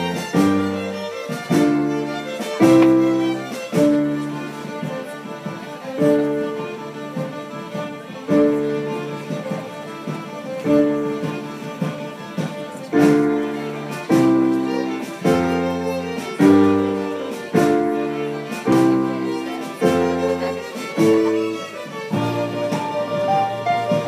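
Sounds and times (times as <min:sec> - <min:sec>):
violins and keyboard playing: 0:00.0 - 0:24.0.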